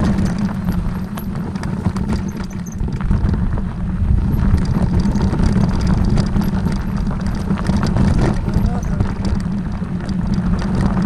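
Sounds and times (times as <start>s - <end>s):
knocks and rattles: 0.0s - 3.5s, 4.2s - 11.0s
vehicle engine and road rumble: 0.0s - 11.0s.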